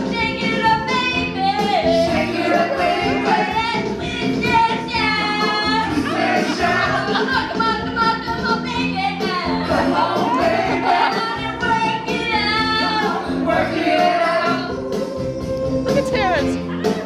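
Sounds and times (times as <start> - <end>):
voices singing a pop song: 0.0 - 15.9
loud backing track: 0.0 - 17.0.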